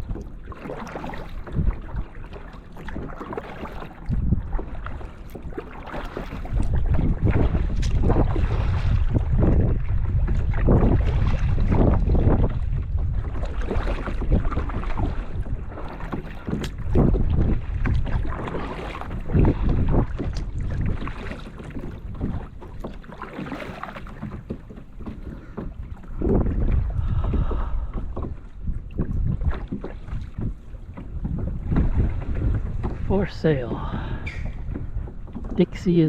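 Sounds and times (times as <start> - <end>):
paddle strokes splashing water: 0.0 - 36.0
wind buffeting microphone: 0.0 - 36.0.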